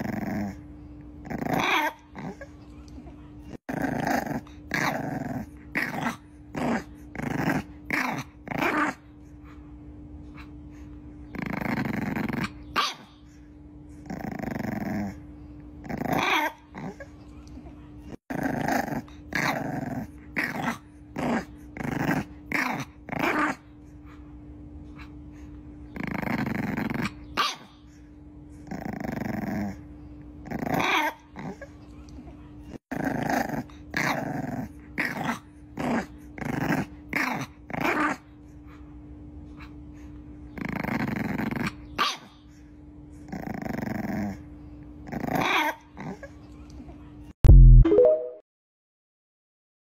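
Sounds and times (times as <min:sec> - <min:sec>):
puppy growling: 0:00.0 - 0:09.6, 0:10.2 - 0:46.9.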